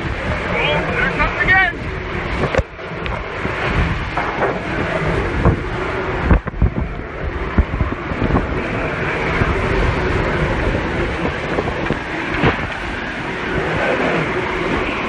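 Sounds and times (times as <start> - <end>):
driving rain: 0.0 - 15.0
roaring wind: 0.0 - 15.0
wind gusts buffeting microphone: 0.0 - 15.0.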